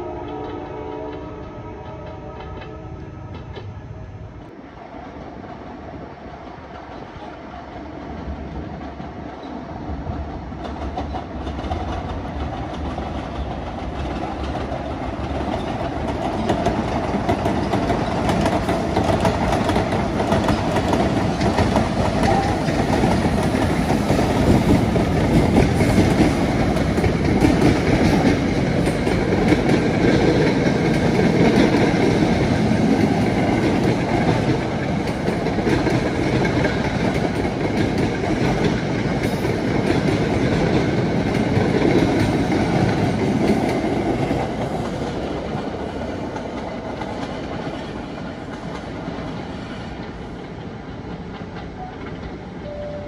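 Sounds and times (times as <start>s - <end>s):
passenger train passing: 0.0s - 53.0s.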